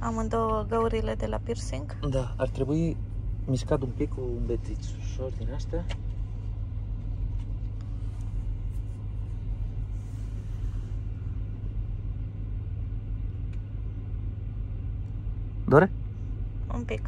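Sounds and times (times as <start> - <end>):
air conditioning hum: 0.0 - 17.0.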